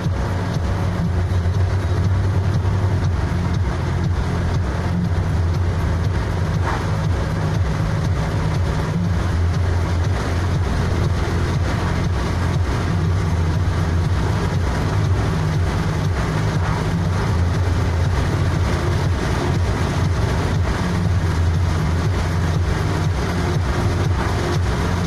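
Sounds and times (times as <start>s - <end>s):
car engine and tyre drone: 0.0s - 25.0s.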